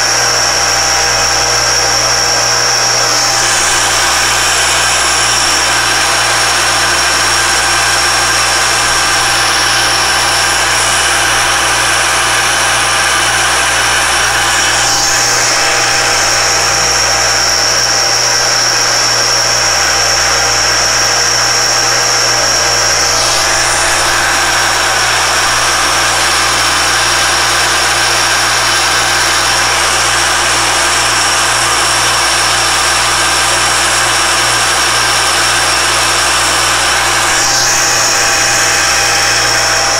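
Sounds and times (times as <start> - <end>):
engraving machine whining: 0.0 - 39.9.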